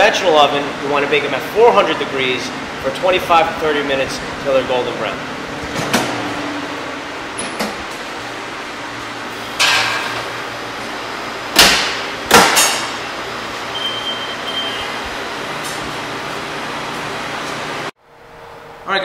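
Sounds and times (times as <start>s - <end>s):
oven fan noise: 0.0s - 19.0s.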